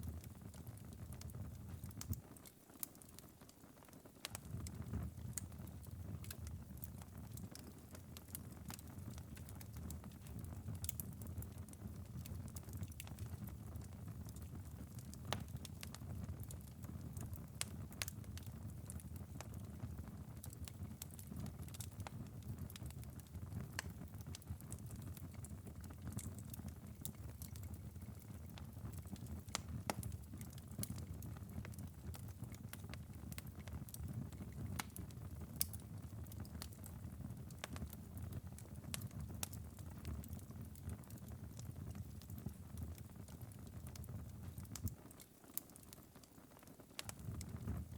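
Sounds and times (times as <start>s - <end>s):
fire embers crackling and popping: 0.0s - 47.9s.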